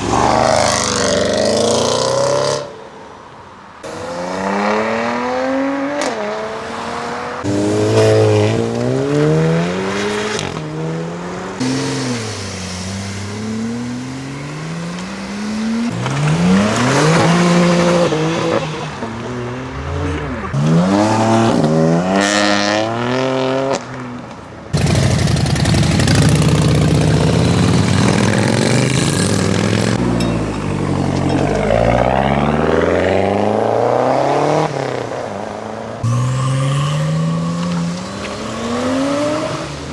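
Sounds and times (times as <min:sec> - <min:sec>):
cars revving and accelerating: 0:00.0 - 0:02.8, 0:03.8 - 0:39.9.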